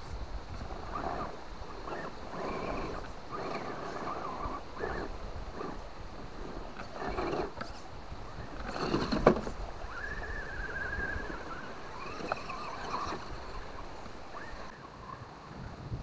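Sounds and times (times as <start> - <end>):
electric motor whining: 0.6 - 14.8.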